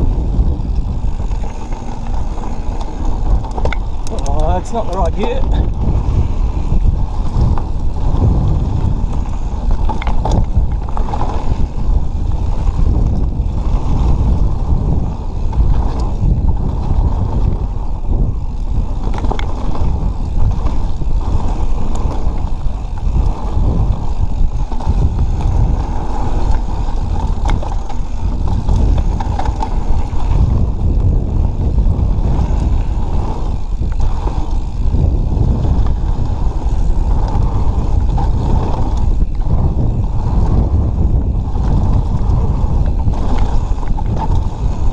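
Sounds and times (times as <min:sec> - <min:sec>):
bike rattling: 0:00.0 - 0:44.9
tyre and wind rumble: 0:00.0 - 0:44.9.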